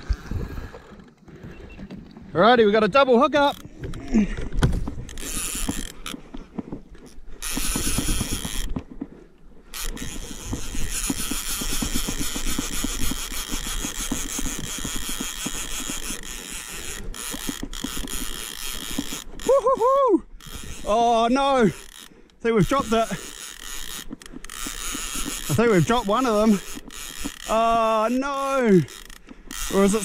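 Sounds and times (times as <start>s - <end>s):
fishing reel ratchet clicking: 3.4s - 6.4s, 7.0s - 9.0s, 9.7s - 30.0s.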